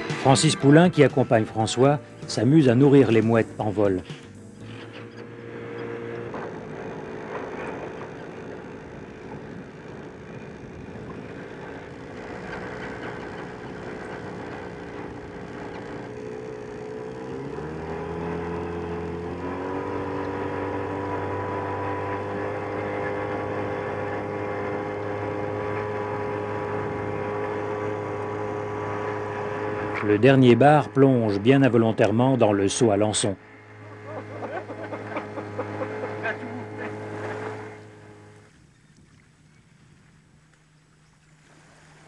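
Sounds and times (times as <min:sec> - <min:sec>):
outboard motor running: 0:00.0 - 0:42.0.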